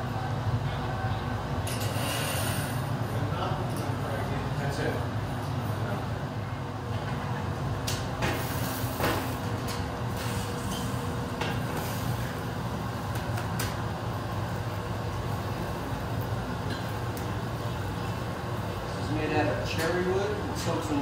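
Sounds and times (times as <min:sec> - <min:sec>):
furnace burners and fans droning: 0:00.0 - 0:21.0.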